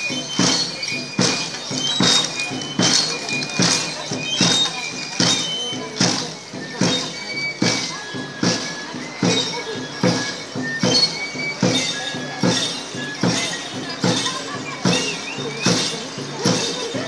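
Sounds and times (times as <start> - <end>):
high flute playing held notes: 0.0 - 16.6
drum beaten in steady pulse: 0.0 - 17.0.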